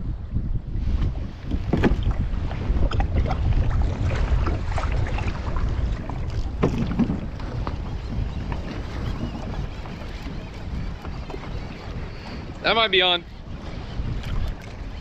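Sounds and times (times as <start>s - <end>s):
wind buffeting microphone: 0.0s - 15.0s
water splashing against hull: 0.8s - 15.0s.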